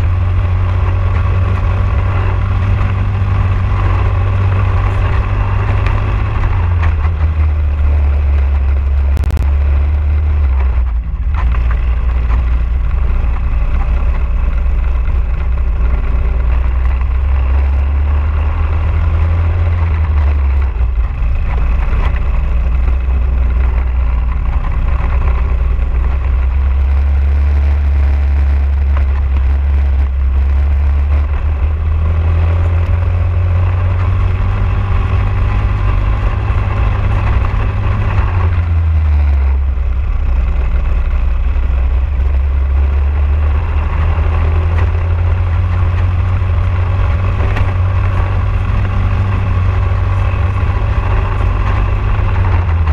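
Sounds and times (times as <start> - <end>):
kart engine running hard: 0.0 - 52.9.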